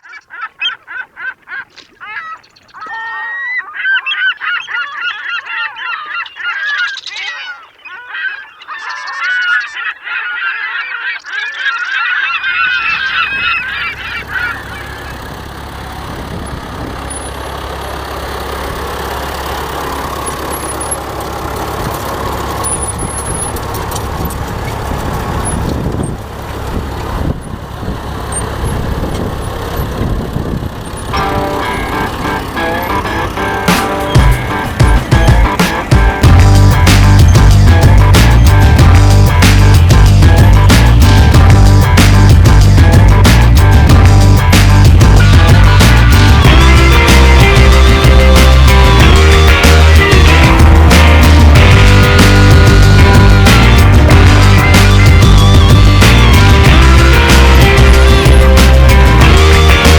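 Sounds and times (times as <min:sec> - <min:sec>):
flock of birds calling: 0:00.0 - 0:59.9
low engine rumble: 0:00.0 - 0:59.9.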